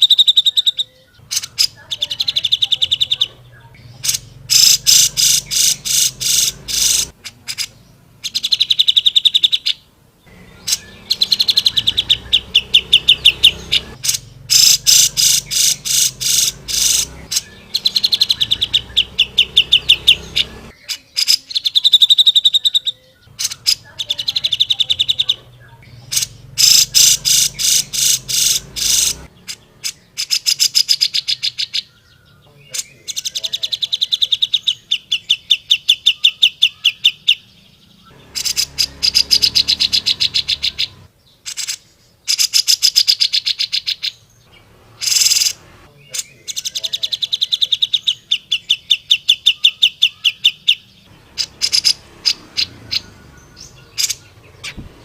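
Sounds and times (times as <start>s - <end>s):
bird singing fast trills: 0.0s - 55.0s.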